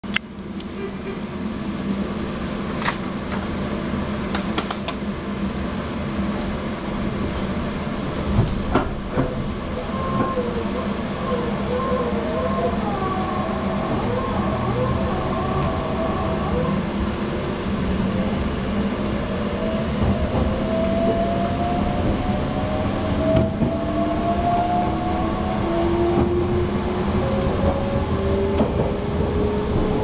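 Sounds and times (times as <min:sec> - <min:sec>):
train equipment hum: 0:00.0 - 0:30.0.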